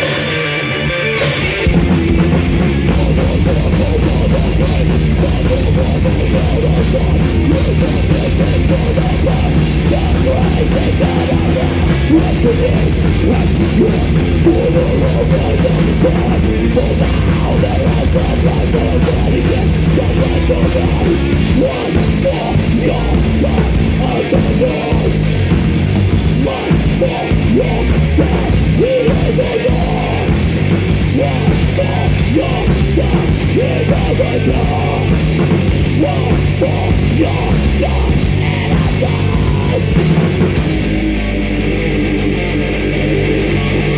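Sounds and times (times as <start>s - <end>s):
bass guitar: 0.0s - 43.9s
distorted guitars: 0.0s - 43.9s
drum kit: 0.0s - 43.9s.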